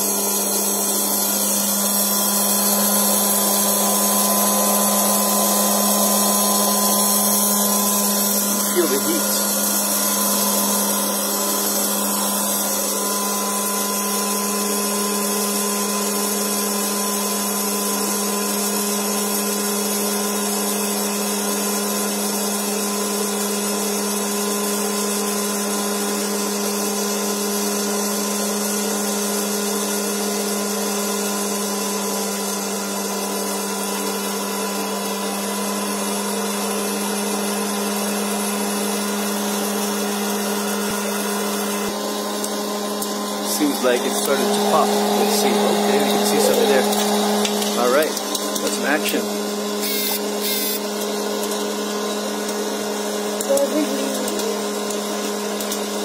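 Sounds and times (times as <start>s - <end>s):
popcorn popper fan humming: 0.0s - 56.0s.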